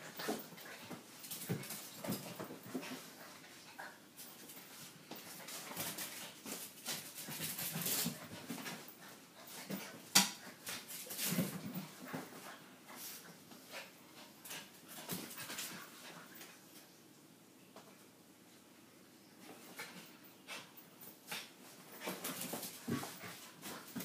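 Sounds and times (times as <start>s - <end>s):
dogs scuffling: 0.0s - 16.6s, 19.4s - 24.0s.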